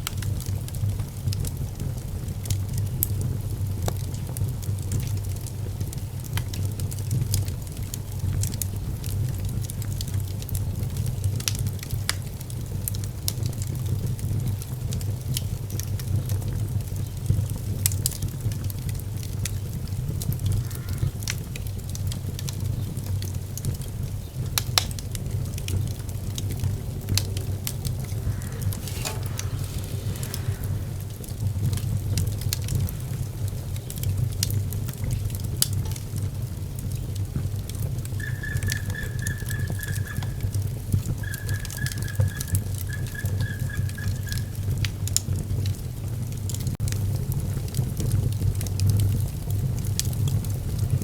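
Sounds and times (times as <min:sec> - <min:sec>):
fire crackling and popping: 0:00.0 - 0:51.0
fire rumbling: 0:00.0 - 0:51.0.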